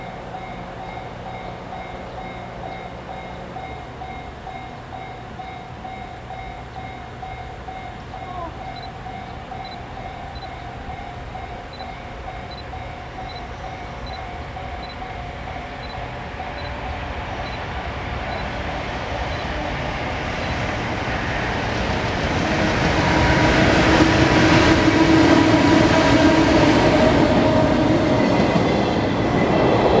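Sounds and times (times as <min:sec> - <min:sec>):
electric locomotive passing: 0:00.0 - 0:30.0
wheels on rail: 0:00.0 - 0:30.0.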